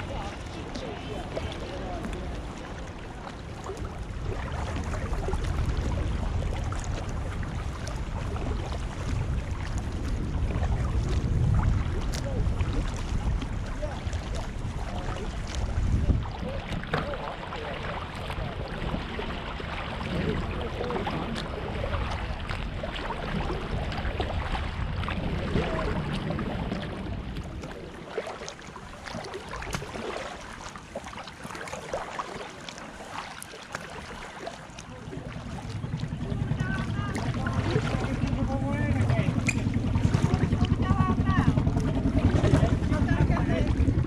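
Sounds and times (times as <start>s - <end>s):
low rumble: 0.0s - 17.2s, 17.9s - 28.1s, 34.7s - 44.0s
water dripping from paddle: 0.0s - 40.8s
kayak paddle splashing: 0.0s - 44.0s
steady wash of water: 0.0s - 44.0s.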